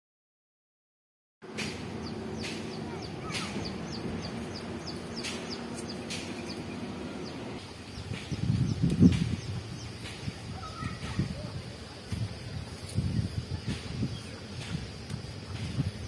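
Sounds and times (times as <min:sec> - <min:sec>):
low rural background: 0:01.4 - 0:16.0
birds chirping and calling: 0:01.5 - 0:16.0.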